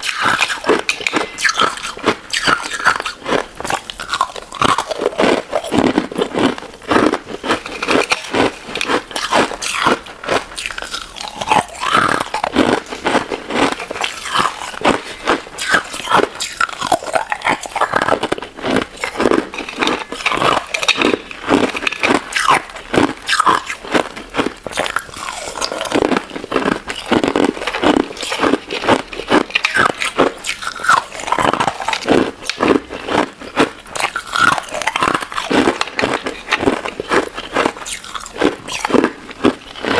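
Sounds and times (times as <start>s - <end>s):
crunching ice dessert: 0.0s - 39.9s.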